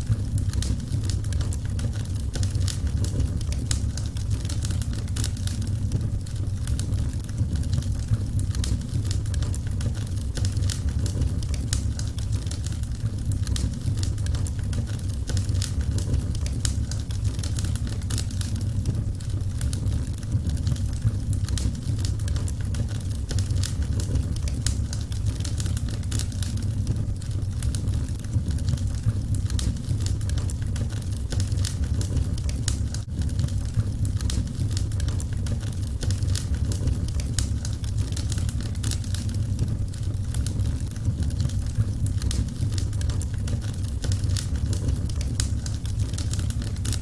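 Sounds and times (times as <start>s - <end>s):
low fire rumble: 0.0s - 47.0s
wood fire crackling: 0.0s - 47.0s.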